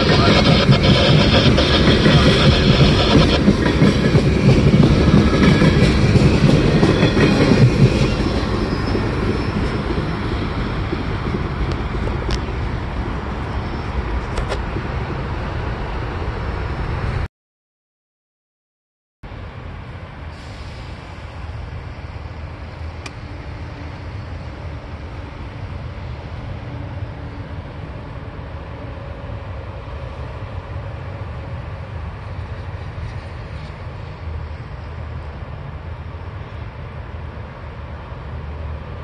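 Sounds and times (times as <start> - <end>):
distant train rumbling: 0.0 - 17.3, 19.3 - 39.0.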